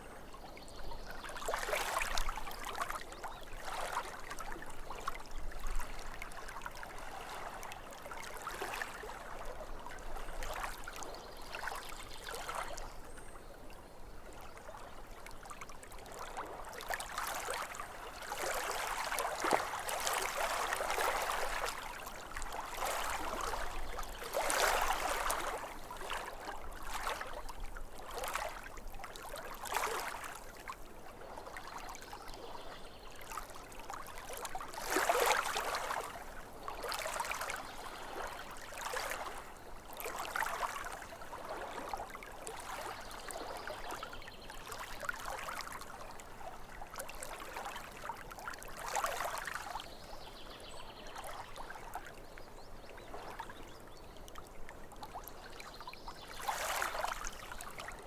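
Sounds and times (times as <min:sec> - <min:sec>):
lake waves lapping on shore: 0:00.0 - 0:12.9, 0:14.3 - 0:58.0.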